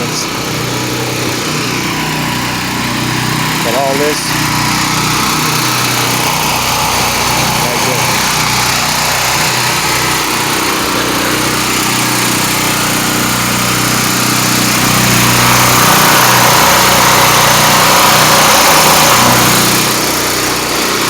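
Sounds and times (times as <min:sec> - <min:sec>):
pressure washer engine running: 0:00.0 - 0:21.0.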